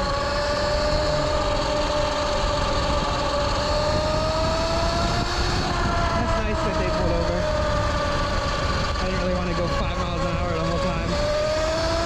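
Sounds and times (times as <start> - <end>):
wind rushing: 0.0 - 11.3
electric motorbike motor whining: 0.0 - 12.0.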